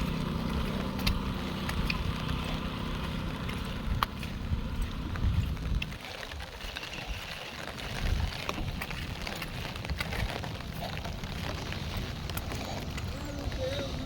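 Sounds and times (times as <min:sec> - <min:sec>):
heavy rain pouring: 0:00.0 - 0:14.0
raindrops ticking nearby: 0:00.0 - 0:14.0.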